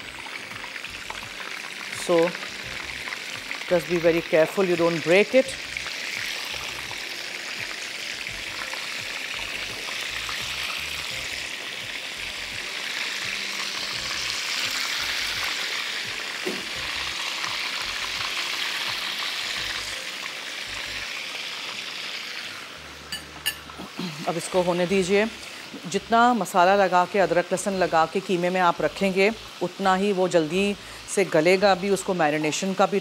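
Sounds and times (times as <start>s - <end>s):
meat sizzling in oil: 0.0s - 33.0s.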